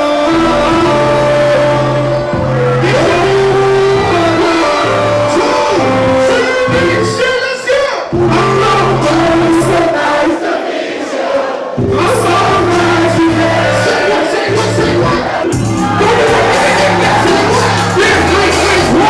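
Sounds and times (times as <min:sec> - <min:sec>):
music with sung vocals: 0:00.0 - 0:10.8, 0:11.6 - 0:19.0
held bass notes: 0:00.3 - 0:07.2, 0:08.1 - 0:09.9, 0:11.8 - 0:19.0.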